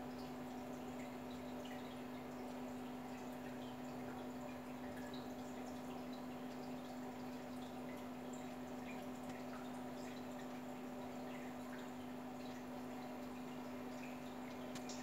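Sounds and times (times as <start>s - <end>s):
aquarium pump hum: 0.0s - 15.0s.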